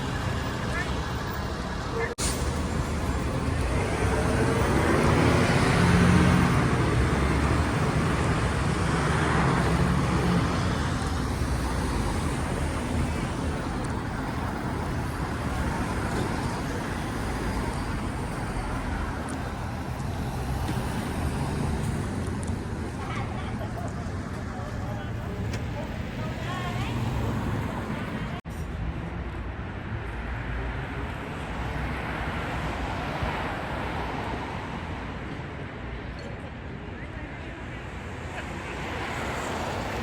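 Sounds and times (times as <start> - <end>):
cars passing: 0.0 - 40.0
traffic rumble: 0.0 - 40.0.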